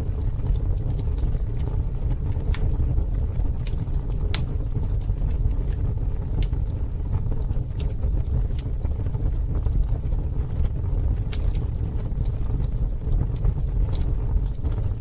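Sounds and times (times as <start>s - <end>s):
campfire rumble: 0.0s - 15.0s
wood crackling and popping: 0.0s - 15.0s.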